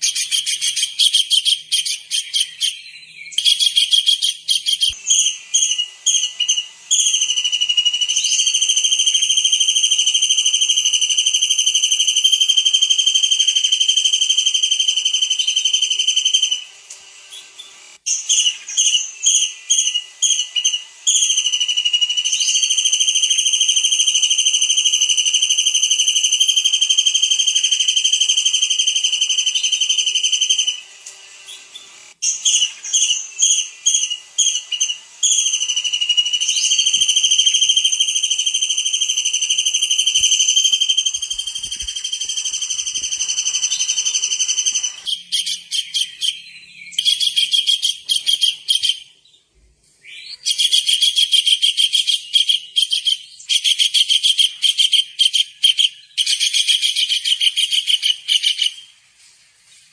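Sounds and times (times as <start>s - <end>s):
bird whistling song: 0.0s - 16.7s, 17.3s - 30.9s, 31.5s - 49.4s, 50.0s - 58.9s.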